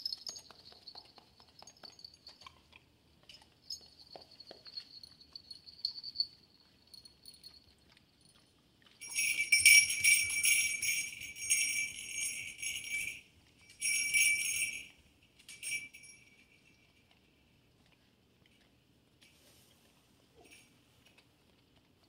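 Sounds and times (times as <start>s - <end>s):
jingle bells on dog collar: 0.0s - 17.6s, 20.4s - 21.2s.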